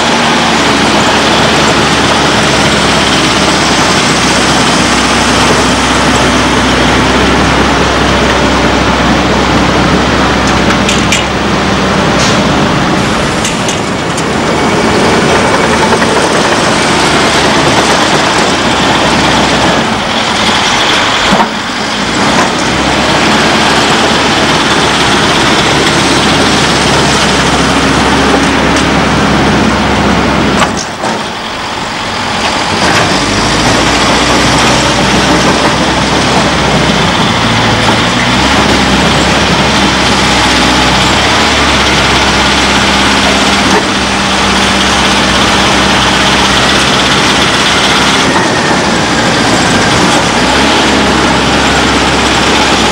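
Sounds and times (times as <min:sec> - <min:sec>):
heavy diesel machines running: 0:00.0 - 0:52.9.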